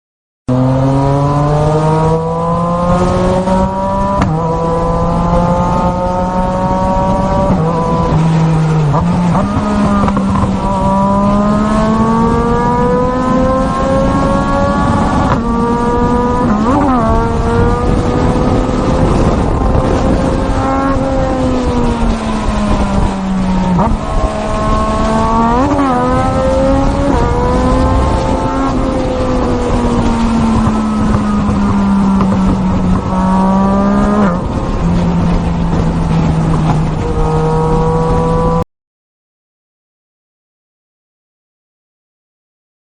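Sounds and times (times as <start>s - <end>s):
racing motorcycle engine revving: 0.5s - 38.6s.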